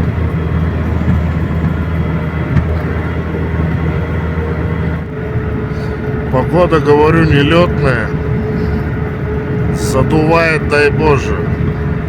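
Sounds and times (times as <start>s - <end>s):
thin steady fan whine: 0.0s - 12.0s
truck engine drone: 0.0s - 12.0s.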